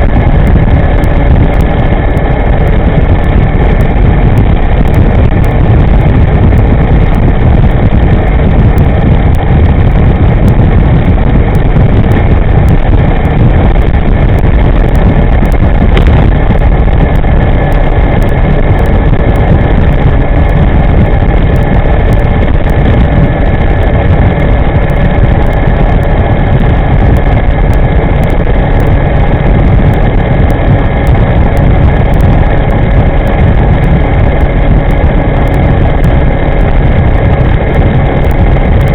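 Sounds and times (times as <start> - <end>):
faint steady whine: 0.0 - 38.9
wind rushing over microphone: 0.0 - 38.9.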